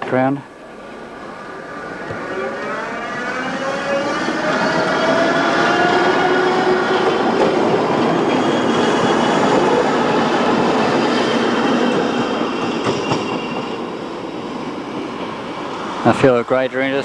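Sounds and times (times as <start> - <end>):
tram wheels rumbling on track: 0.0 - 17.0.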